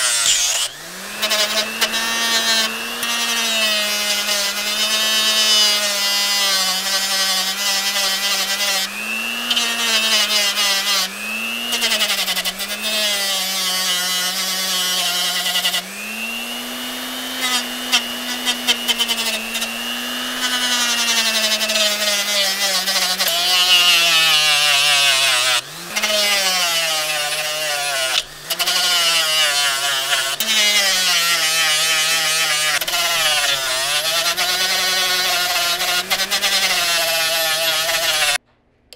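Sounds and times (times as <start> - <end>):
grinder grinding steel: 0.0 - 38.4.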